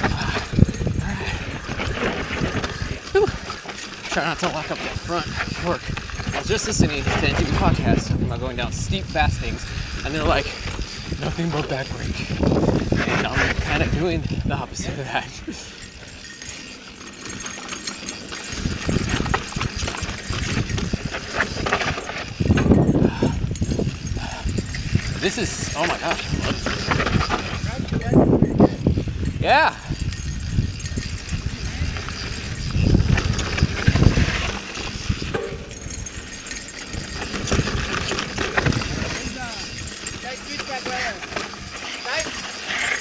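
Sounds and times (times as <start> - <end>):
wind rumble on microphone: 0.0 - 16.6, 18.1 - 43.0
bike rattling over rocks: 0.0 - 43.0.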